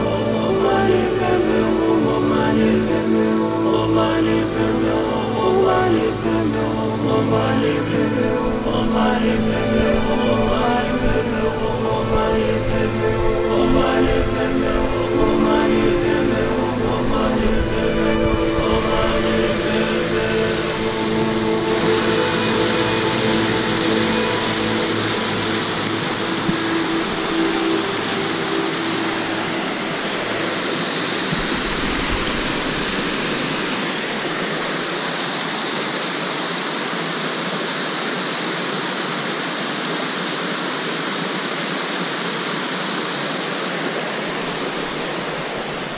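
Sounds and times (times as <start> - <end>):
stream rushing over boulders: 0.0 - 45.9.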